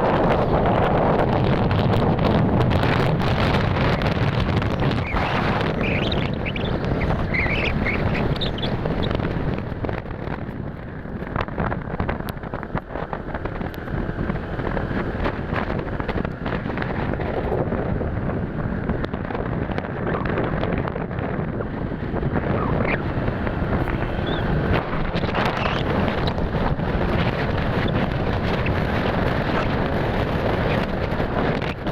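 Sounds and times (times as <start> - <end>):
motorcycle road noise: 0.0 - 31.9
wind buffeting microphone: 0.0 - 31.9.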